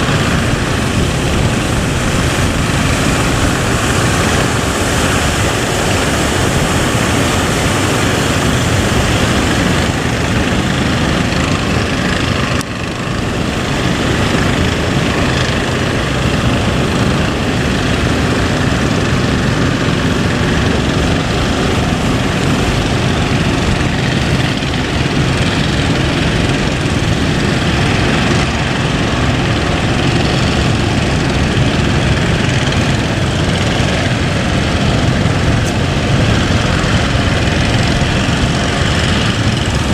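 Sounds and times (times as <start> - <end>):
boat engine running: 0.0 - 39.9
loud rushing noise: 0.0 - 39.9.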